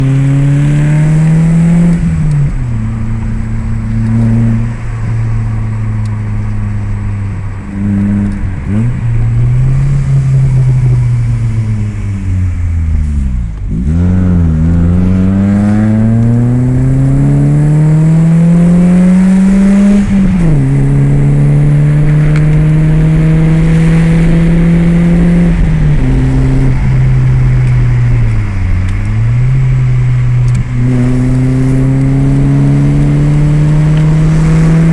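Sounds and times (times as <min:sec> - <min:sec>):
car engine revving: 0:00.0 - 0:34.9
wind noise through car windows: 0:00.0 - 0:34.9.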